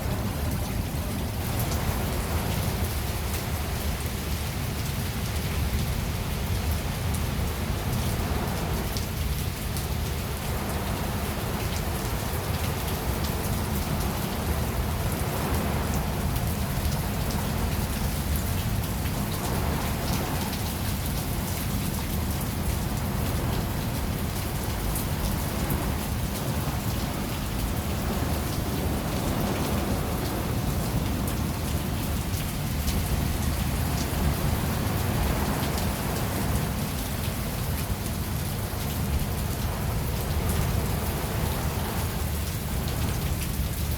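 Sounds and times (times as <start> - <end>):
constant low rumble: 0.0 - 43.9
steady rain falling: 0.0 - 43.9.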